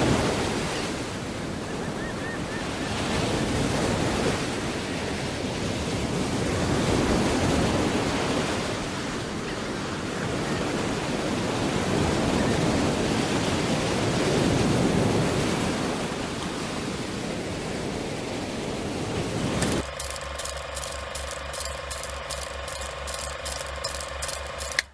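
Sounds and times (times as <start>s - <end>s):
sea waves breaking ashore: 0.0s - 24.9s.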